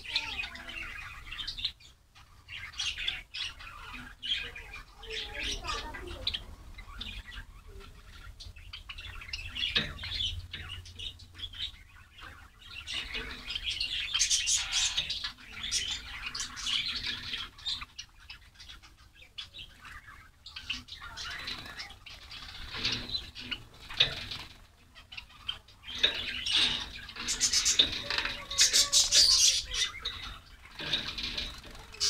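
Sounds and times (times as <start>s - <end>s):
sparrows chirping: 0.0s - 32.0s.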